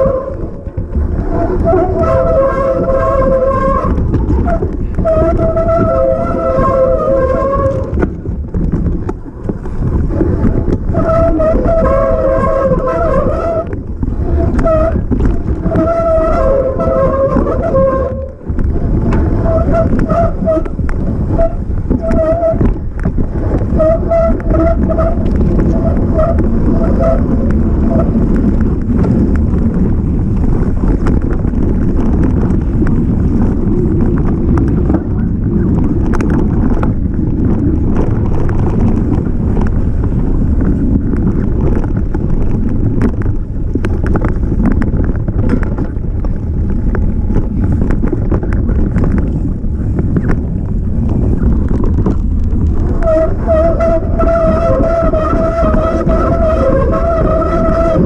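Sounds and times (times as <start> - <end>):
bike tyres rumbling on rough trail: 0.0 - 58.0
wind buffeting microphone: 0.0 - 58.0.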